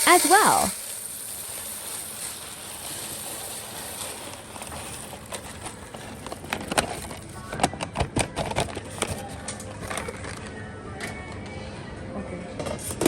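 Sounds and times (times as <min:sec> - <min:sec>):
grains clicking and rattling: 0:00.0 - 0:10.5.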